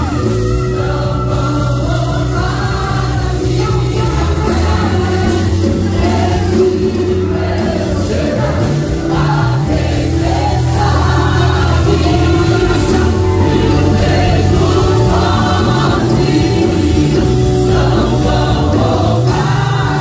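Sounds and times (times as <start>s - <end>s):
choir singing: 0.0s - 20.0s
held low bass notes: 0.0s - 20.0s.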